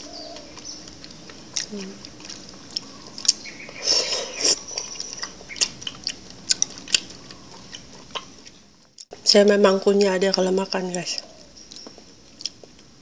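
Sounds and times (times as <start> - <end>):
wet chewing and smacking: 0.0 - 9.2, 9.9 - 12.9.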